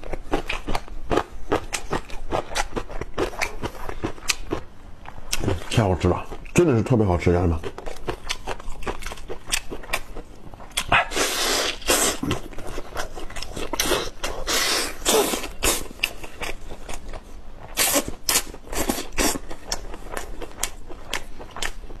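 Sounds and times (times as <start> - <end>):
man chewing meat: 0.0 - 6.6, 7.6 - 22.0.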